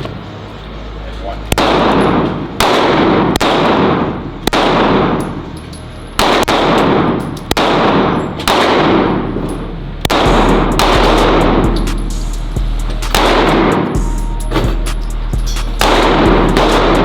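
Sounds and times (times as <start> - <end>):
loud gunshots with echo: 1.5 - 5.6, 6.2 - 17.0.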